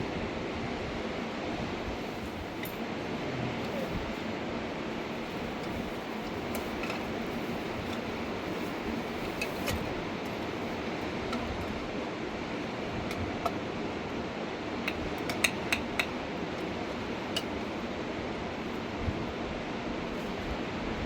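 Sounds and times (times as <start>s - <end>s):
mountain river rushing: 0.0s - 21.0s.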